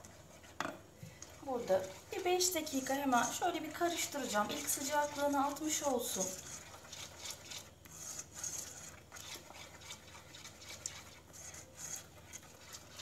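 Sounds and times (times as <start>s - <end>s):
whisk stirring pudding in pot: 0.0s - 13.0s.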